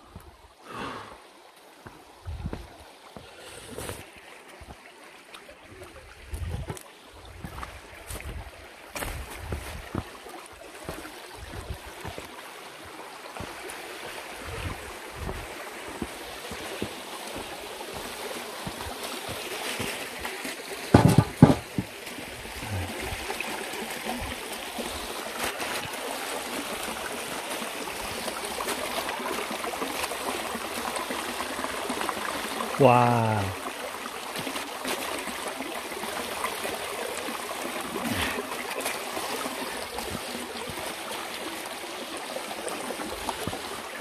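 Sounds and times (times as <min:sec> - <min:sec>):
mountain stream flowing: 0:00.0 - 0:44.0.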